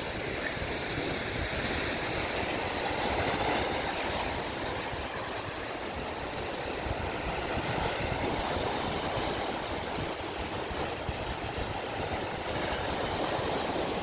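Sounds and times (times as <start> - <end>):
waves washing on shore: 0.0 - 14.0
wind buffeting microphone: 0.0 - 14.0.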